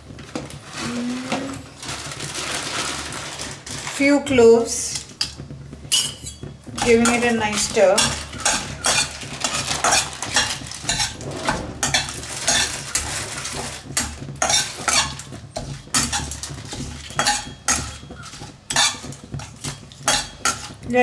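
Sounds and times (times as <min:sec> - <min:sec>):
spatula scraping in wok: 0:02.9 - 0:21.0.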